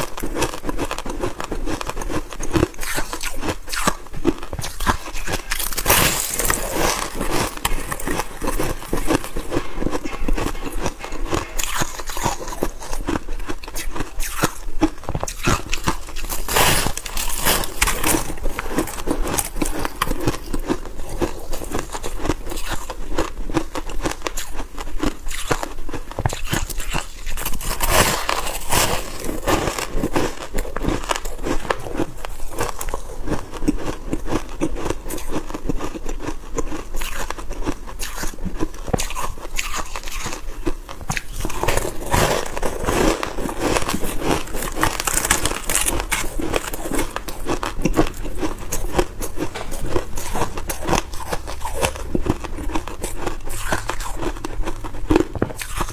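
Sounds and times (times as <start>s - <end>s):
frost being chewed and crunching: 0.0s - 55.9s.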